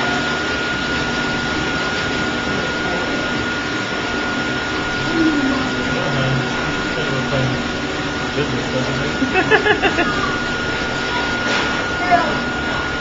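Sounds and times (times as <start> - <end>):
blow dryer whining: 0.0 - 13.0.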